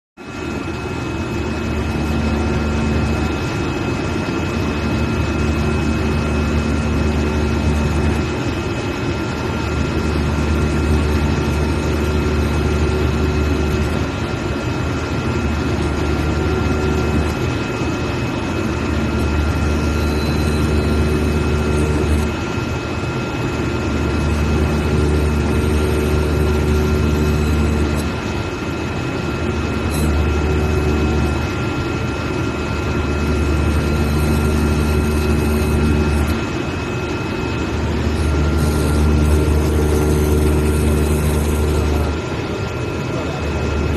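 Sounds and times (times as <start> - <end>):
cutting machine high whine: 0.2 - 43.9
low machine hum: 0.2 - 43.9.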